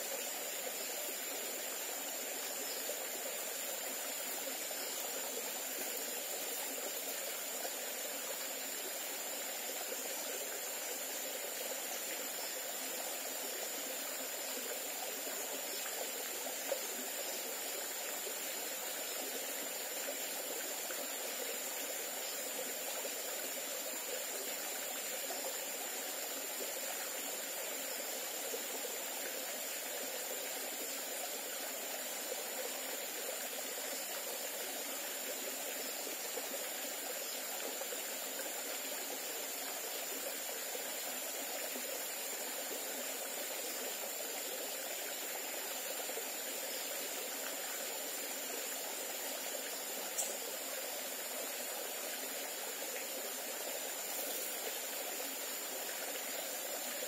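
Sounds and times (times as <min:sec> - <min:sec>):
stream splashing over stones: 0:00.0 - 0:57.0.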